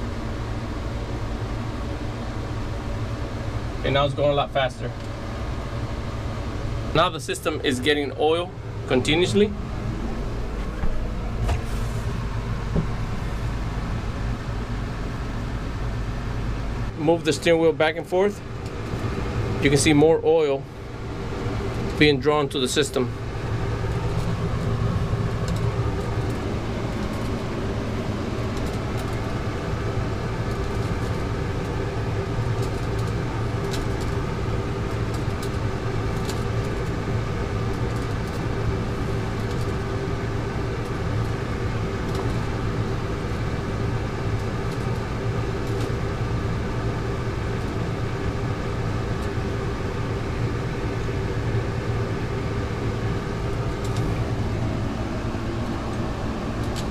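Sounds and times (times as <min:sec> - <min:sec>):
low mechanical motor hum: 0:00.0 - 0:56.9.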